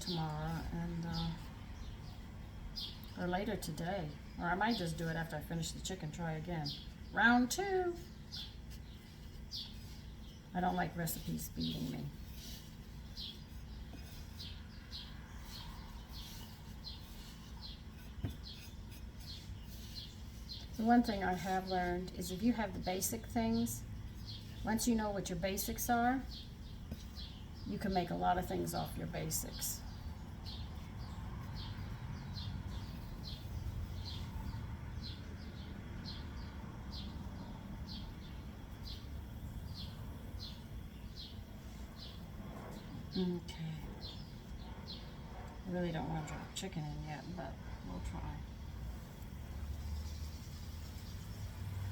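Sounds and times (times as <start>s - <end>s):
bird chirping: 0.0s - 51.9s
steady low hum: 0.0s - 51.9s.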